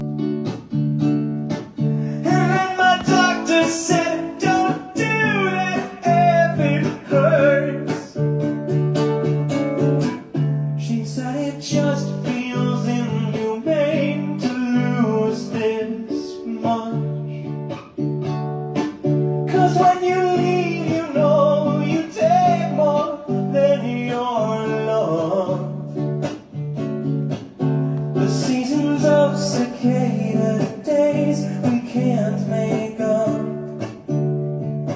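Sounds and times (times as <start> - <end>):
strummed acoustic guitar: 0.0 - 34.9
person singing: 1.8 - 18.0, 19.3 - 26.5, 27.7 - 34.1.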